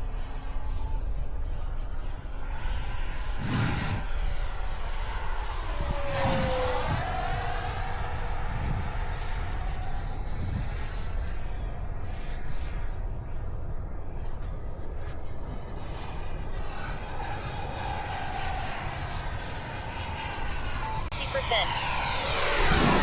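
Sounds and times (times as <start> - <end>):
model jet fan whine: 0.0 - 23.0.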